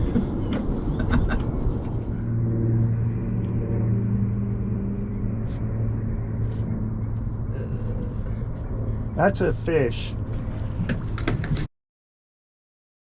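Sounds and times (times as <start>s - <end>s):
low motor hum: 0.0s - 11.7s
low rumble: 0.0s - 11.7s.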